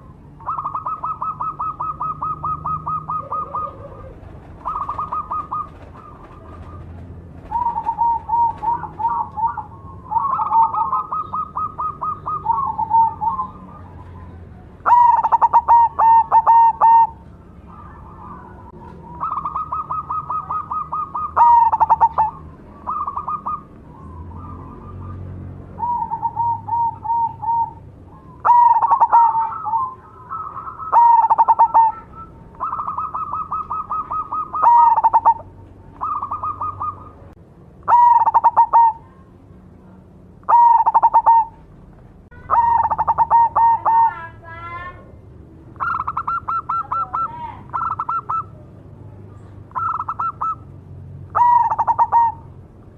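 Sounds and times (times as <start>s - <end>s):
dove cooing in trills: 0.0s - 39.3s, 40.4s - 41.7s, 42.3s - 44.4s, 45.8s - 48.7s, 49.4s - 50.7s, 51.3s - 52.6s.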